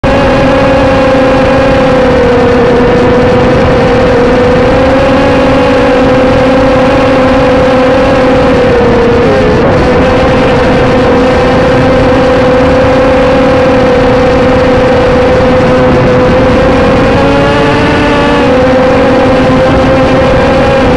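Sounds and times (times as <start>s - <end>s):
drone propellers whining: 0.0s - 20.9s.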